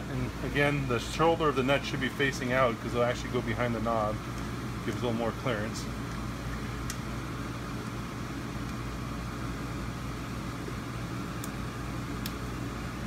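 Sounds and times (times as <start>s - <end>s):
machine humming and hissing: 0.0s - 13.0s.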